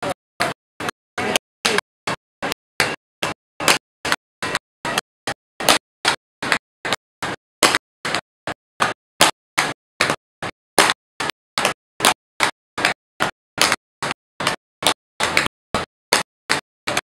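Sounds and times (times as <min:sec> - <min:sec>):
tap shoes tapping on board: 0:00.0 - 0:17.0.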